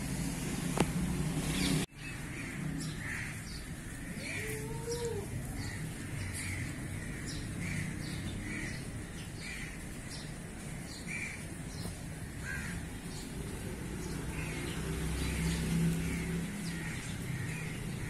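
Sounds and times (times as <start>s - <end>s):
birds calling: 0.2s - 18.0s.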